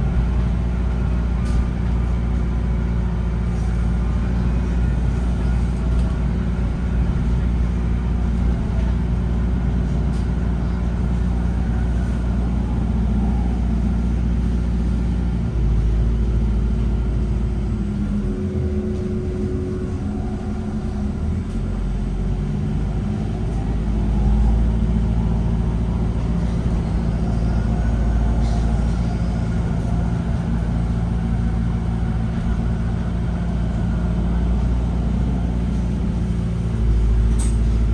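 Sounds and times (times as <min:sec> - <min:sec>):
city bus low hum with tones: 0:00.0 - 0:37.9.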